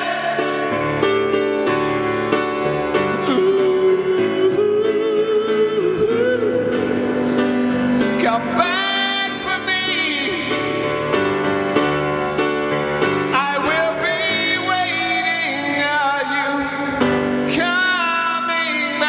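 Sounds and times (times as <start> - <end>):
man singing: 0.0 - 1.1, 3.0 - 11.3, 13.2 - 19.0
piano chords: 0.0 - 19.0.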